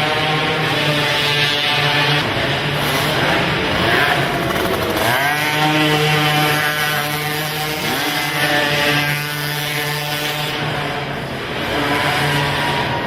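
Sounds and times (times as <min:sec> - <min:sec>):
quad engines revving: 0:00.0 - 0:13.0.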